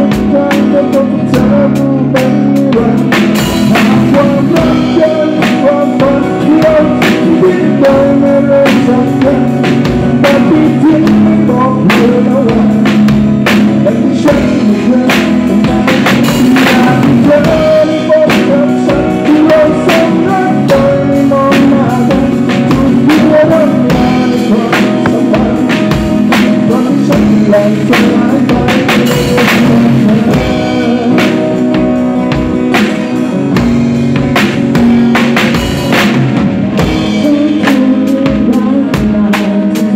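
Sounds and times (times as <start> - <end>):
person singing: 0.0 - 34.0, 36.8 - 39.9
band playing live: 0.0 - 39.9
drum kit struck hard: 0.0 - 39.9.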